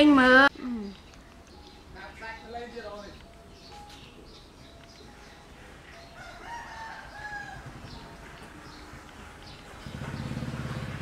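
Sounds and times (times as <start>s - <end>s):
drawn-out bird call: 0.8s - 11.0s.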